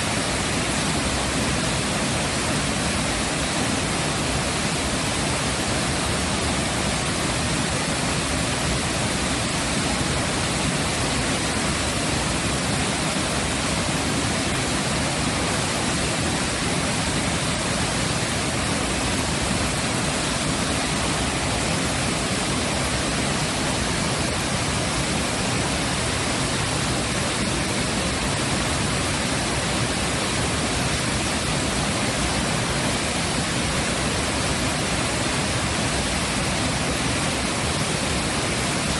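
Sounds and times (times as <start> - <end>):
waterfall rushing water: 0.0 - 38.9.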